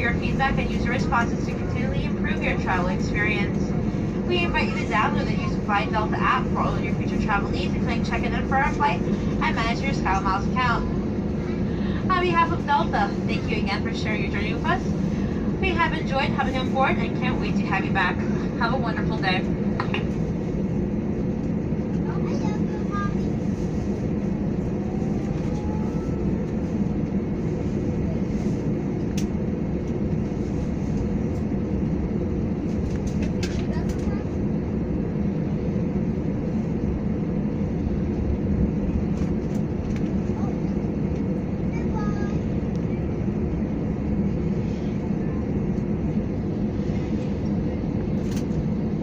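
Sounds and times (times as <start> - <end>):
aircraft engines idling: 0.0 - 49.0
aircraft rolling: 0.0 - 49.0
airplane cabin rumble: 0.0 - 49.0.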